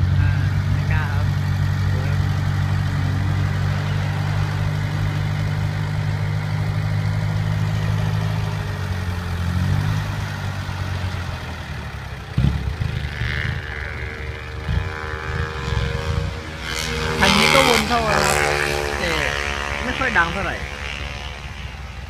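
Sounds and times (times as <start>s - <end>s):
dump truck diesel engine drone: 0.0s - 22.0s.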